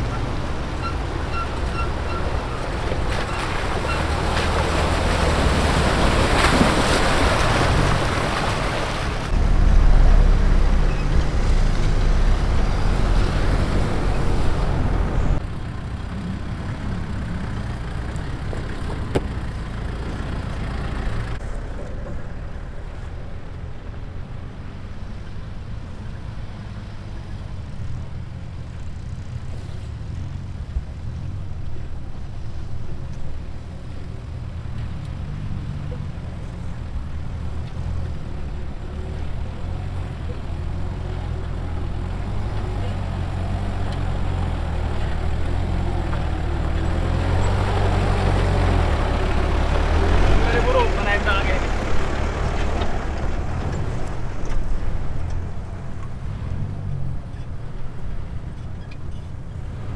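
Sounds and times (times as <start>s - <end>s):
off-road engines at low revs: 0.0s - 59.9s
rushing river water: 0.0s - 59.9s.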